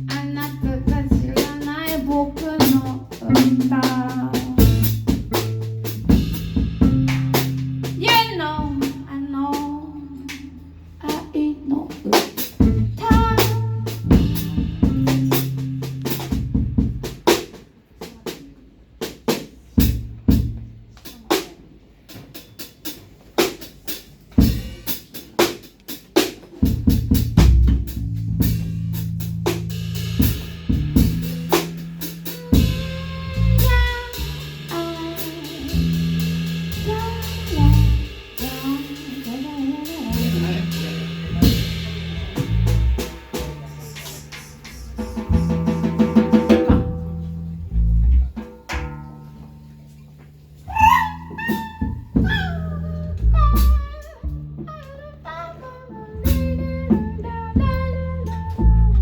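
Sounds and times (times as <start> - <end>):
electric bass line: 0.0 - 11.3, 12.5 - 17.2, 26.8 - 59.0
drum kit: 0.0 - 59.0
live band playing: 0.0 - 59.0.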